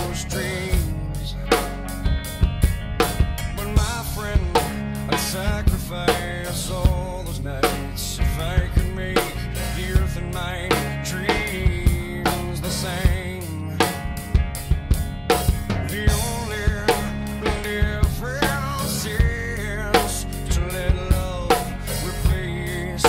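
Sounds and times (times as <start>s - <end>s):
recorded rock song: 0.0s - 23.0s.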